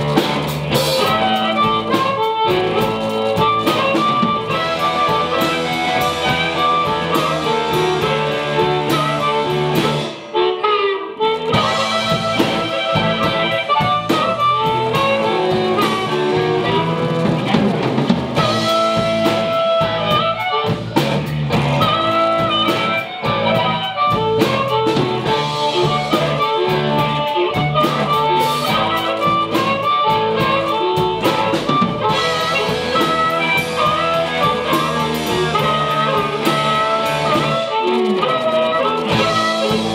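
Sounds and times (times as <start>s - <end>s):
electric blues band playing: 0.0s - 39.9s
harmonica bending notes: 0.0s - 39.9s.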